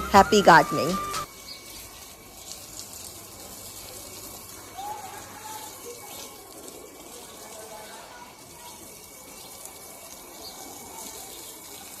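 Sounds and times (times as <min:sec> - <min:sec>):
water running: 0:00.0 - 0:12.0.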